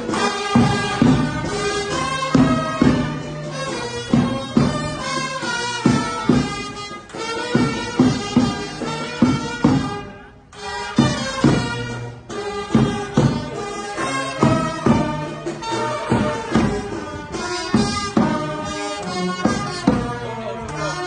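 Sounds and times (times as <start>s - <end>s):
reedy wind instrument melody: 0.0s - 21.0s
steady drum beat: 0.0s - 21.0s.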